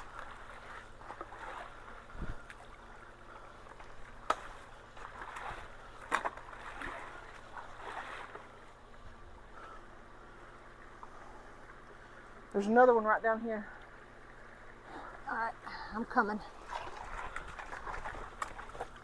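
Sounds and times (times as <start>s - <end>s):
creek water splashing: 0.0s - 19.0s.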